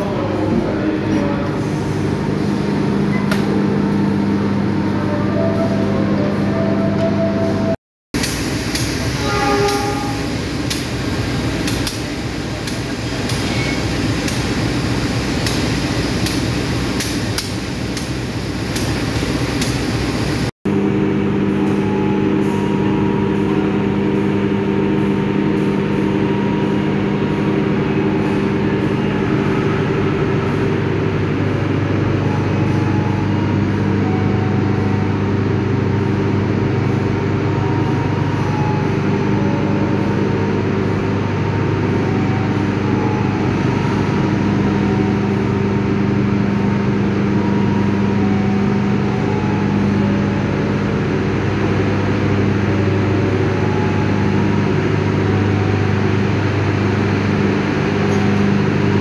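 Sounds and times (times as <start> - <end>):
diesel train engine droning: 0.0 - 59.0
train rumbling past: 0.0 - 59.0.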